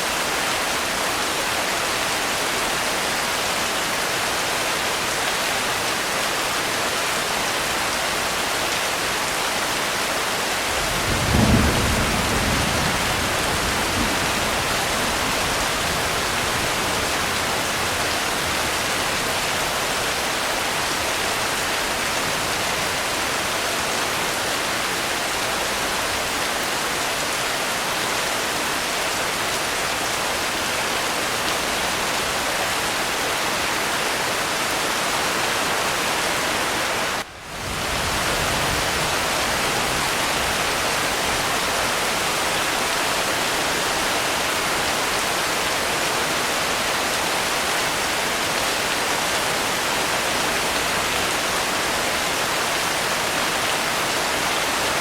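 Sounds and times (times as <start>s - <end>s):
heavy rain hissing: 5.3s - 55.0s.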